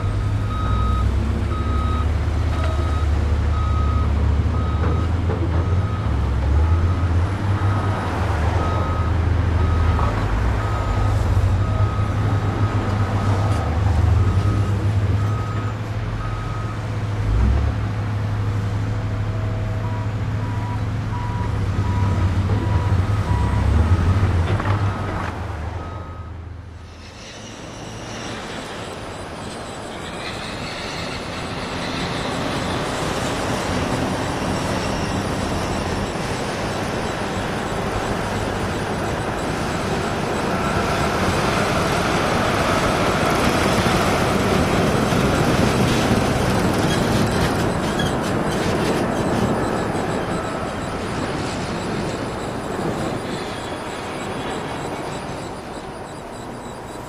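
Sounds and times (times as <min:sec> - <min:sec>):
reversing alarm beeping: 0:00.0 - 0:17.5, 0:19.0 - 0:57.0
heavy truck engine running: 0:00.0 - 0:57.0.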